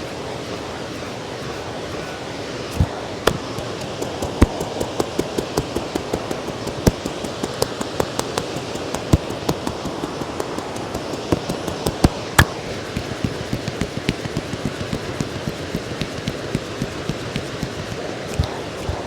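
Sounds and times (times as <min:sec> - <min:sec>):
hand slap: 0:00.0 - 0:19.0
hands tapping on head: 0:00.0 - 0:19.0.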